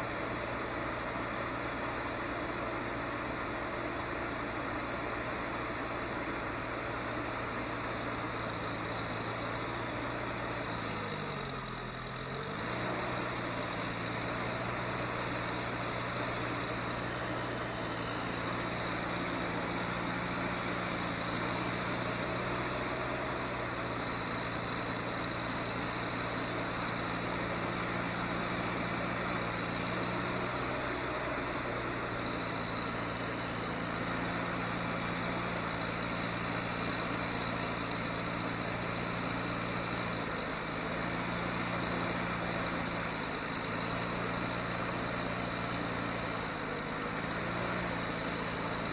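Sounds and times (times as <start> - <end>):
heavy vehicle engine running: 0.0 - 48.9.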